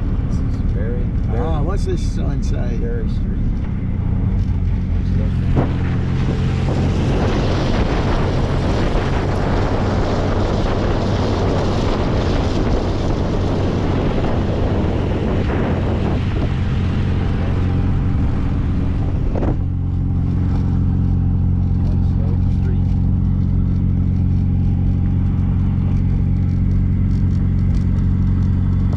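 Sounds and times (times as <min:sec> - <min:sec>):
car engine droning: 0:00.0 - 0:28.9
wind rushing over microphone: 0:00.0 - 0:28.9.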